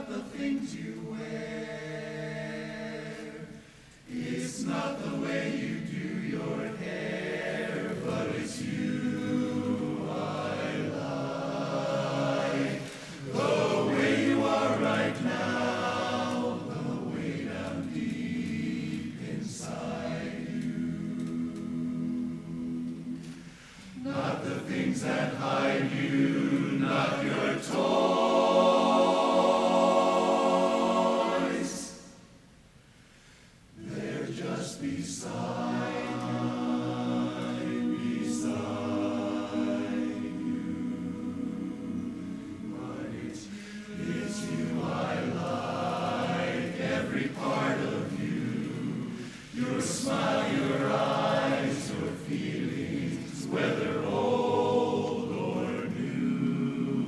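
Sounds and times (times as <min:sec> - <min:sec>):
barbershop chorus singing: 0:00.0 - 0:32.4, 0:33.8 - 0:57.0.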